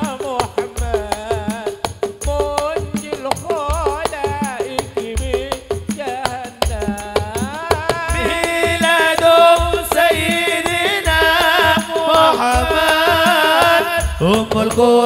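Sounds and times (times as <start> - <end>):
hand drums: 0.0 - 15.0
men singing: 0.0 - 15.0
sharp drum slaps and rattles: 0.0 - 15.0.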